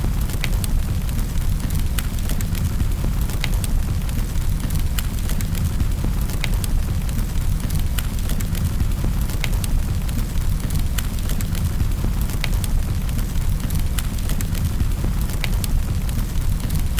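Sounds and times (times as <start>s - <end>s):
sharp pops and snaps of fire: 0.0s - 16.9s
wood fire crackling: 0.0s - 16.9s.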